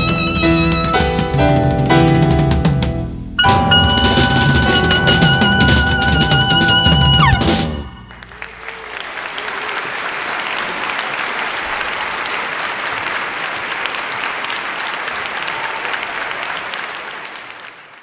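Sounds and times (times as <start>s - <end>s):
audience applauding: 3.4s - 18.0s.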